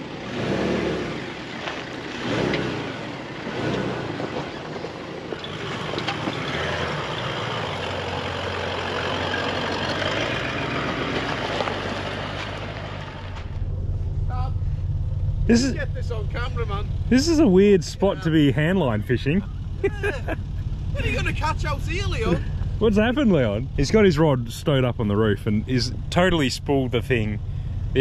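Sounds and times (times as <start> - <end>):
vehicle engine droning: 0.0 - 28.0.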